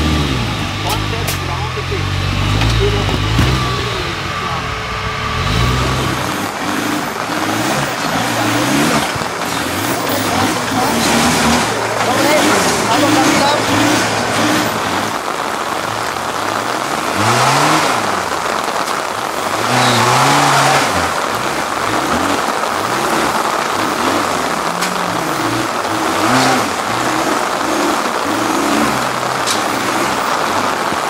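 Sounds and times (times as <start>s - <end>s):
engine revving: 0.0s - 31.0s.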